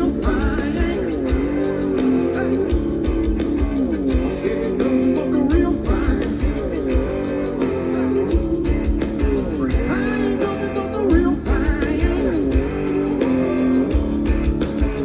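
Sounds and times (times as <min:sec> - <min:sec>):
bass guitar: 0:00.0 - 0:15.0
electric guitar bending notes: 0:00.0 - 0:15.0
steady drum beat: 0:00.0 - 0:15.0.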